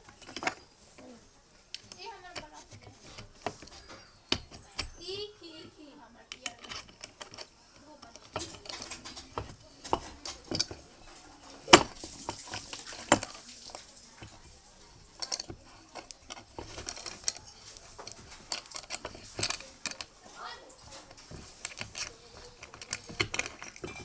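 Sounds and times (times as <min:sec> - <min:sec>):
metal tools clinking: 0:00.0 - 0:24.0.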